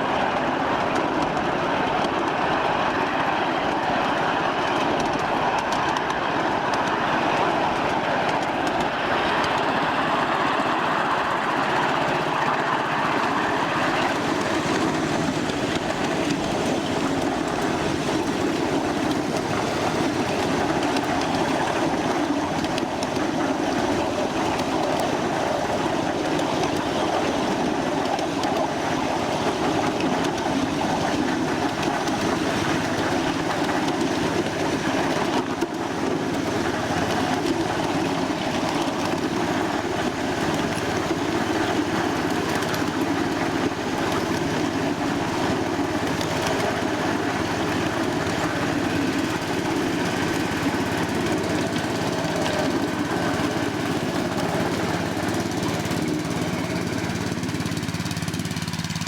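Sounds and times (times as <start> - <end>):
miniature train wheels rumbling: 0.0 - 59.0.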